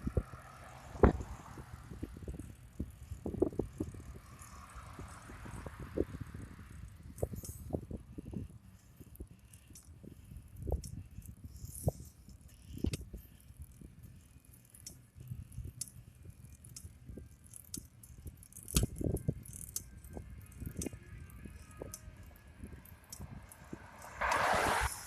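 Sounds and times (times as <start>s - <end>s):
bicycle rattling over bumps: 0.0s - 25.0s.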